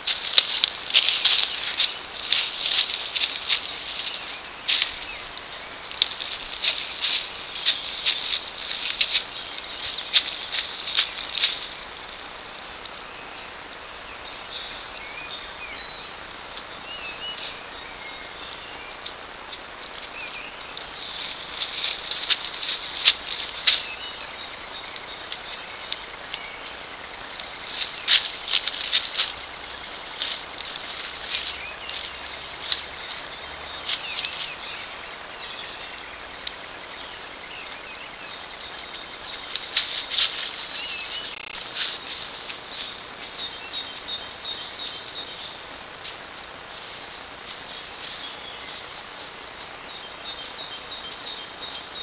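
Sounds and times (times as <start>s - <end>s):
dry crackling rustles in leaves: 0.0s - 52.0s
microphone hiss: 0.0s - 52.0s.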